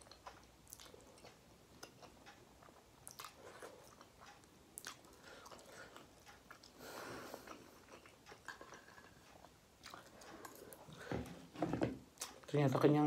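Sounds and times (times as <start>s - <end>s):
person chewing noodles: 0.0s - 11.1s.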